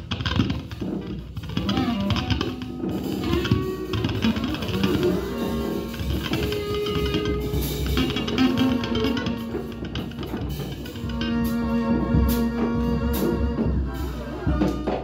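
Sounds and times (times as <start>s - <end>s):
drum and cymbal hits: 0.0s - 15.0s
electric guitar picking and scraping: 0.0s - 15.0s
bowed violin long notes: 1.5s - 15.0s.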